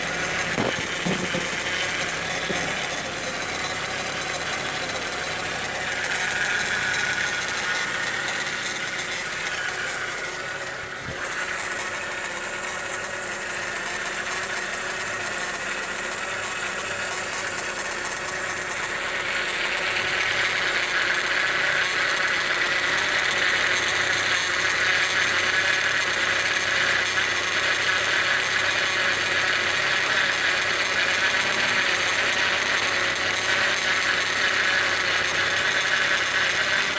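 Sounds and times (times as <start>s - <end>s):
car engine idling: 0.0s - 36.9s
high-pitched mechanical whine: 0.0s - 36.9s.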